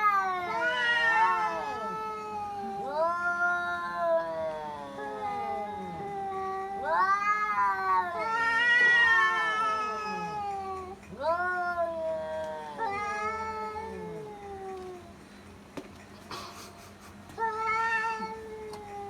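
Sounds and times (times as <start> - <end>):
cats yowling: 0.0 - 15.2, 17.4 - 19.0.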